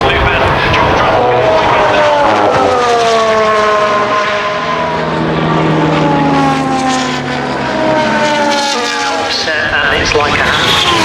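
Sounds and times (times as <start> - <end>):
racing car engine at high revs: 0.0 - 11.0
second lower engine note: 0.0 - 11.0.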